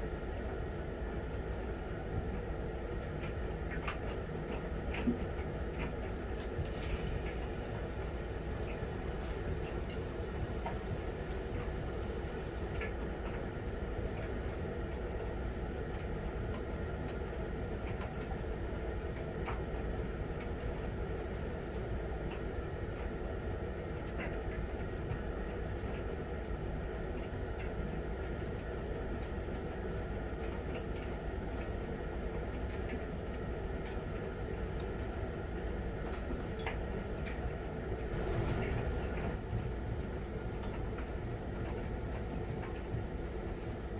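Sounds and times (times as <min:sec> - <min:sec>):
washing machine humming: 0:00.2 - 0:43.9.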